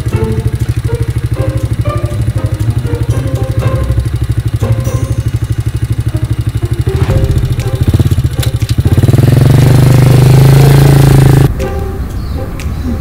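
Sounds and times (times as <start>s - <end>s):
small motorcycle engine running: 0.0s - 11.6s.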